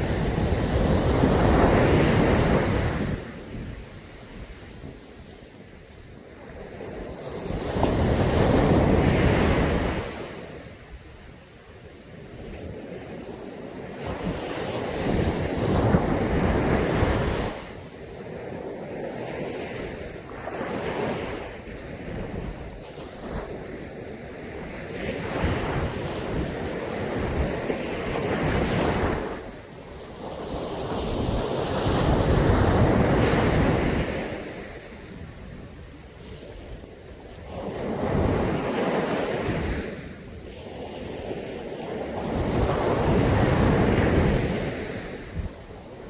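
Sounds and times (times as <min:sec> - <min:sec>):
waves breaking on beach: 0:00.0 - 0:46.0.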